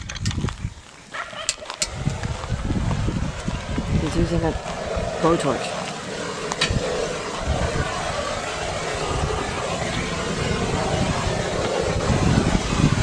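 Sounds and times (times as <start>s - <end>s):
blowtorch burning: 1.6s - 13.0s.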